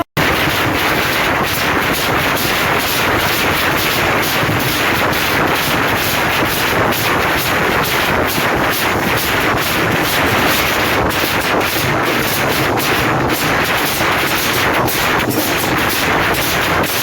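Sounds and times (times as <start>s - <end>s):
drum bands drumming: 0.0s - 17.0s.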